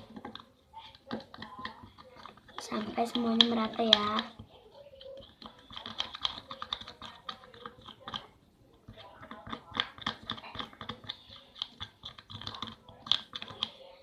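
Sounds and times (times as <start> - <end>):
sticky paste being stirred: 0.0 - 14.0.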